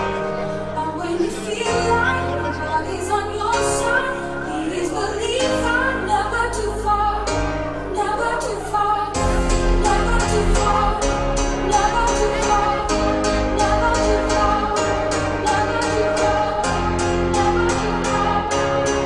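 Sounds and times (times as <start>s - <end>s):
song with singing: 0.0s - 19.0s.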